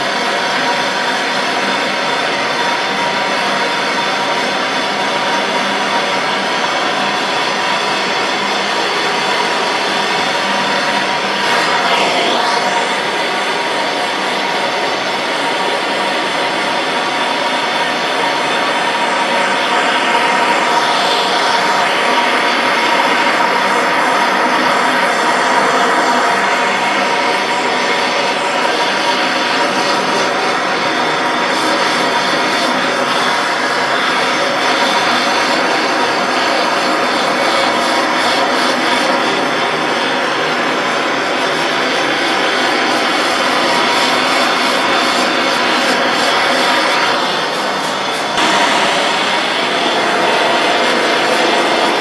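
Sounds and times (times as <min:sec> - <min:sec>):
blowtorch flame hissing: 0:00.0 - 0:52.0.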